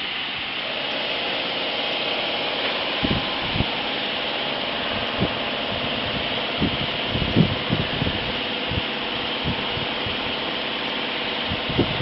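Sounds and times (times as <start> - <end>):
machine fans blowing hum: 0.0 - 12.0.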